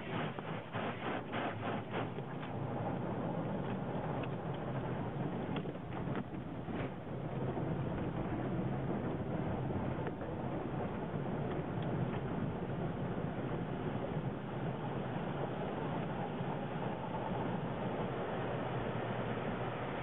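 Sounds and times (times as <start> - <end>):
car wash rushing noise: 0.0 - 20.0.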